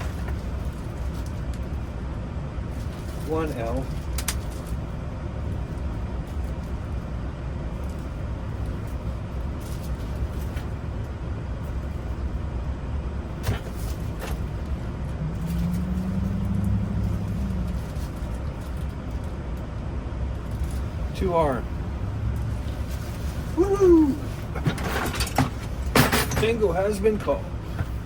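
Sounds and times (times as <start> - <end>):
motor vehicle rumble: 0.0 - 28.0
steady hum: 0.0 - 28.0.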